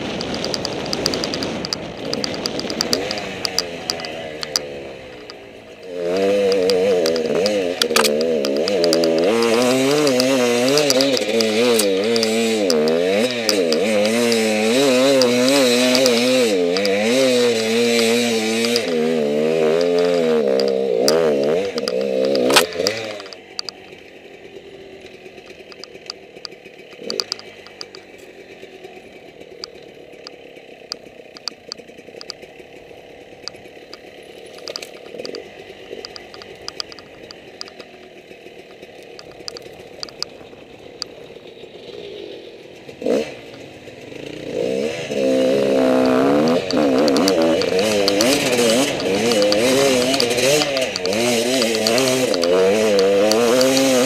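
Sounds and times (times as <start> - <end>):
dirt bike engine revving: 0.0 - 54.0
faint clicks: 0.1 - 24.2, 25.0 - 45.8, 46.4 - 54.0.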